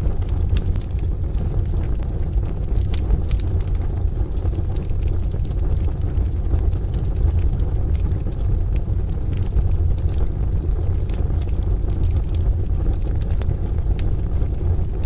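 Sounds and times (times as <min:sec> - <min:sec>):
rain: 0:00.0 - 0:15.0
wood fire crackling and popping: 0:00.0 - 0:15.0.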